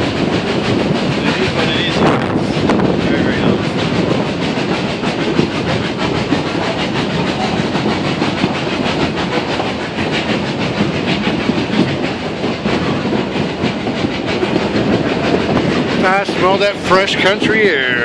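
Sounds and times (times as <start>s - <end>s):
train carriages rumbling: 0.0s - 18.0s
wheels clattering on rails: 0.0s - 18.0s.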